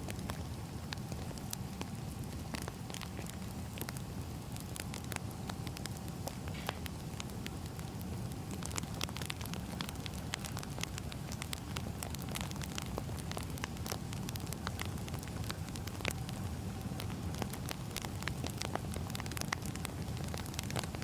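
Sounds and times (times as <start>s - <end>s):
firewood crackling and popping: 0.0s - 21.0s
low rush of flames: 0.0s - 21.0s.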